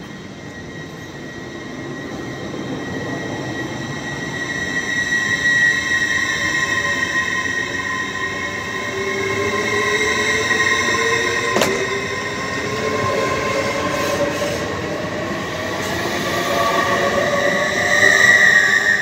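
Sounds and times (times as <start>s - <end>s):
train whine and rumble: 0.0s - 19.0s.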